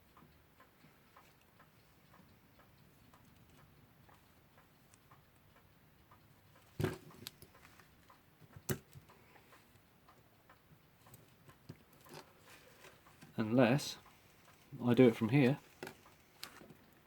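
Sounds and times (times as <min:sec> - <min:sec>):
mechanical clock ticking: 0:00.0 - 0:17.0.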